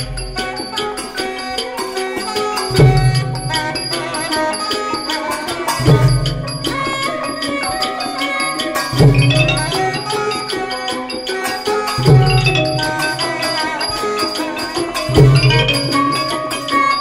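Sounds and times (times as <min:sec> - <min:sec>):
xylophones and gong circles: 0:00.0 - 0:17.0.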